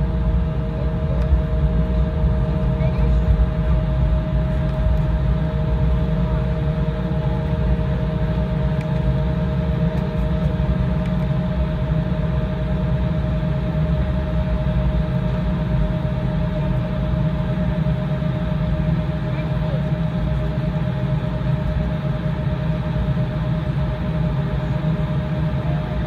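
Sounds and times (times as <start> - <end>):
jet engine rumble and whine: 0.0 - 26.0
lower whine: 0.0 - 26.0.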